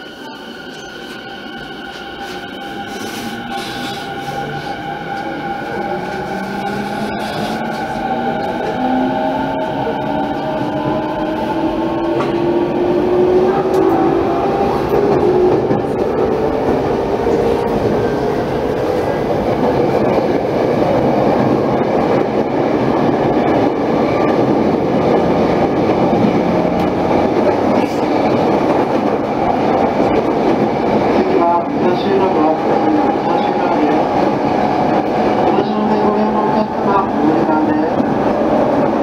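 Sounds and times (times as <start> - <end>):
wheels rumbling on rails: 1.5 - 39.0.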